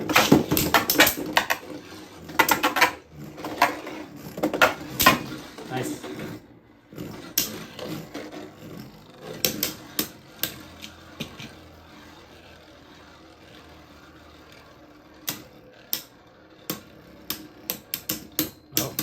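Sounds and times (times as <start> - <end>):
spinning top hum: 0.0 - 19.0.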